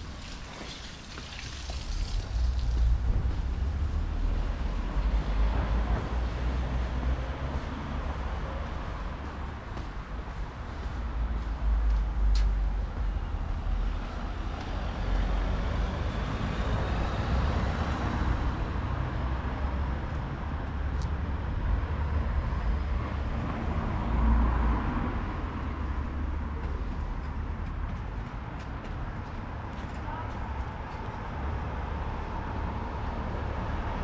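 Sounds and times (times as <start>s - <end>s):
cars passing: 0.0s - 34.0s.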